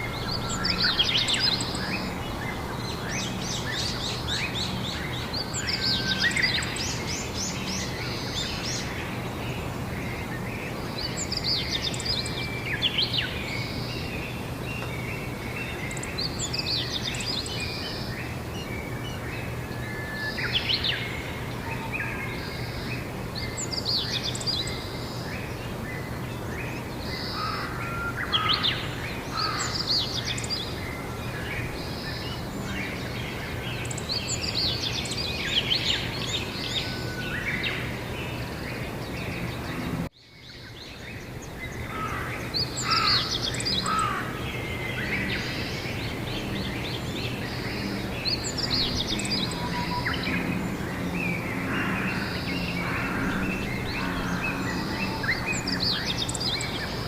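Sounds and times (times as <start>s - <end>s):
songbirds chirping and trilling: 0.0s - 57.0s
steady background hiss: 0.0s - 57.0s.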